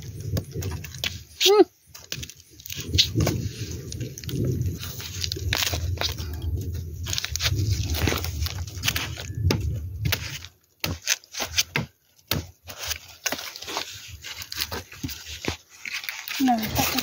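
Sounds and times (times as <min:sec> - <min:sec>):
dry leaves and soil crackling: 0:00.0 - 0:17.0.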